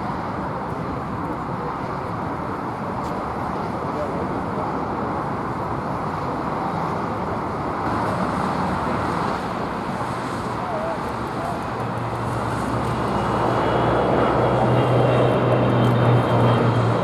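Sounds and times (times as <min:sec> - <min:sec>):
jet engines roaring: 0:00.1 - 0:17.0.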